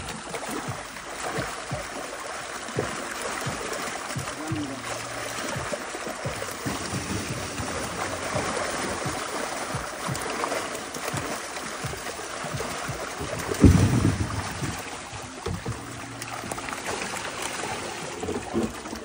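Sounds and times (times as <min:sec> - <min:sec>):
fish thrashing in water: 0:00.0 - 0:19.0
heavy splash: 0:00.0 - 0:19.0.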